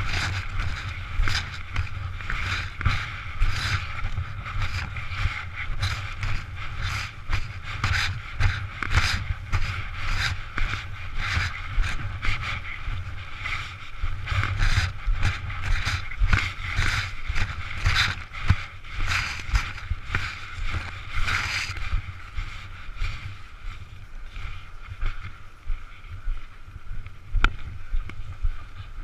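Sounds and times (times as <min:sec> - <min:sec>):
footsteps on shingle: 0:00.0 - 0:25.9
wind rumbling on microphone: 0:00.0 - 0:29.0.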